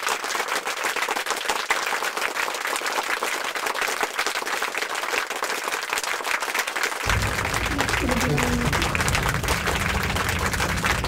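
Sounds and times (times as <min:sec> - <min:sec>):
applause: 0:00.0 - 0:11.0.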